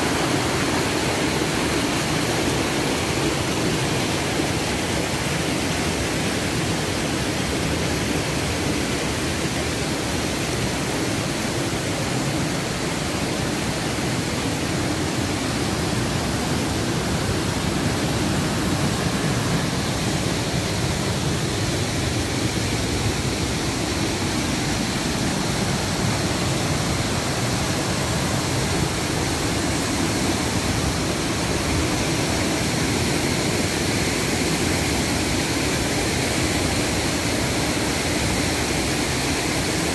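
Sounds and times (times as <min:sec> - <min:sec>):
river water roaring: 0:00.0 - 0:39.9.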